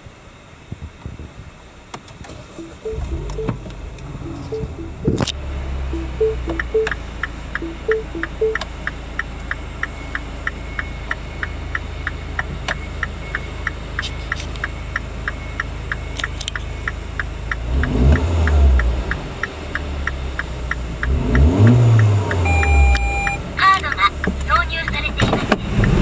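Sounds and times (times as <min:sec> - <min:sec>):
car engine idling and revving: 0:00.0 - 0:26.0
regular engine ticking: 0:02.6 - 0:26.0.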